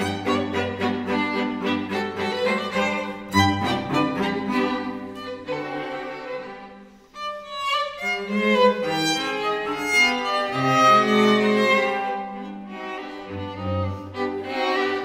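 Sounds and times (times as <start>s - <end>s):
string quartet playing: 0.0s - 15.0s.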